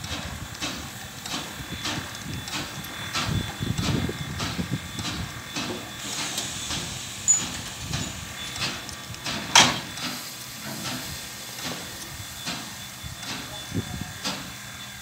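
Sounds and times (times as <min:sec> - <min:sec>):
steam hissing: 0:00.0 - 0:15.0
steam locomotive chuffing: 0:00.0 - 0:15.0.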